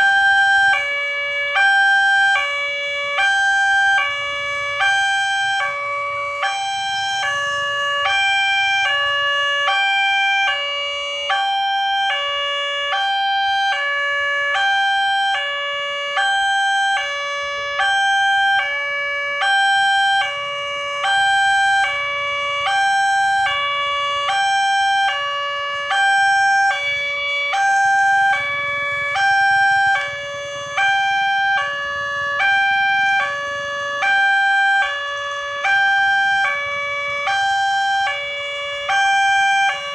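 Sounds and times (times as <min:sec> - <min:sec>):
two-tone level-crossing siren: 0:00.0 - 0:39.9.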